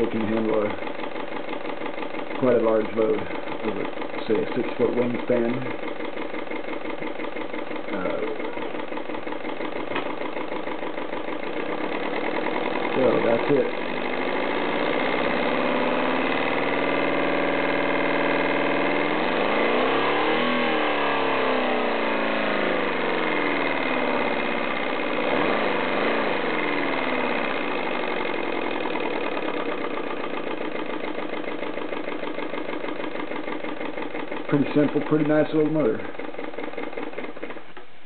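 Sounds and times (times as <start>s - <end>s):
model engine running fast beat: 0.0s - 37.8s.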